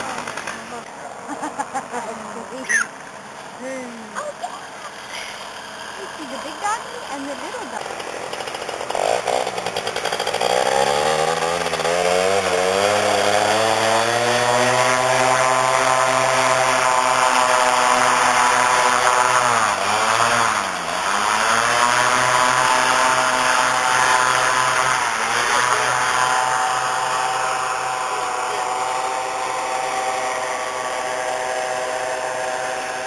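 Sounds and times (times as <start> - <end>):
paramotor engine and propeller: 0.0 - 33.0.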